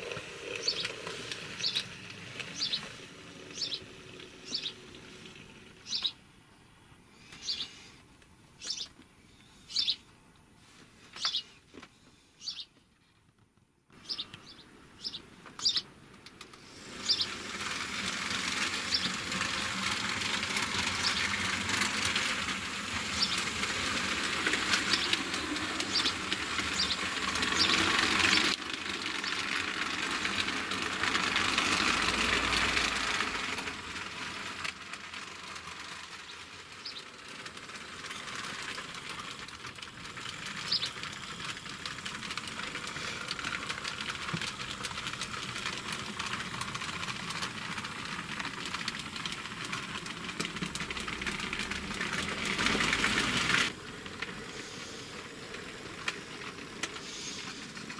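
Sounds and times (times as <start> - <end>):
model train wheels rattling on rail: 0.0 - 6.4, 7.2 - 8.0, 8.6 - 9.0, 14.0 - 57.9.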